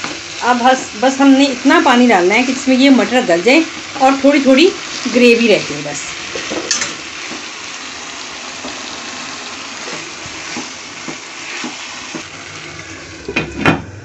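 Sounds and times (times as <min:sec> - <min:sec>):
water sizzling in hot pan: 0:00.0 - 0:13.4.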